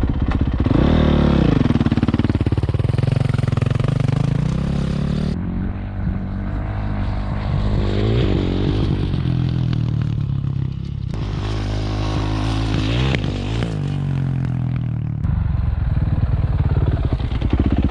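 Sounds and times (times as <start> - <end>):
dirt bike engine revving: 0.0 - 15.2.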